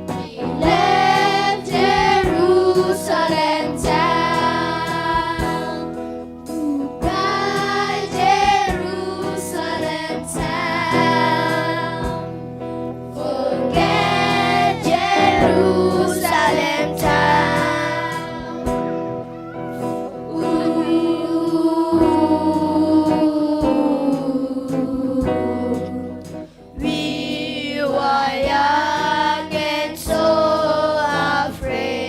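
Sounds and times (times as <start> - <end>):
group of voices singing: 0.0 - 18.9, 20.1 - 32.0
sustained instrumental accompaniment: 0.0 - 32.0.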